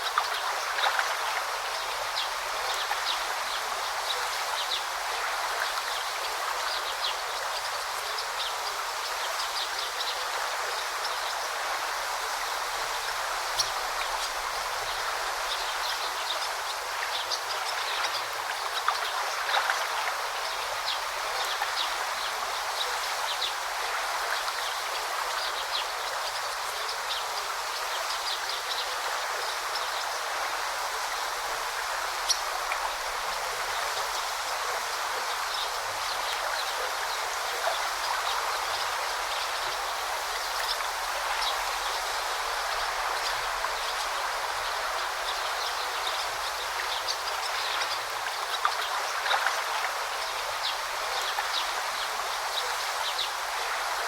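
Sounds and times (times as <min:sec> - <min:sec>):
stream rushing babble: 0:00.0 - 0:54.0.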